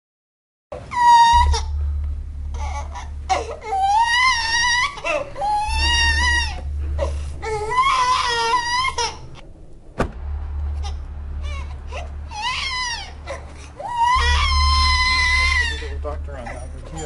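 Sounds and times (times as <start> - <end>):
infant crying: 0.9 - 1.8, 2.5 - 9.4, 10.8 - 17.0.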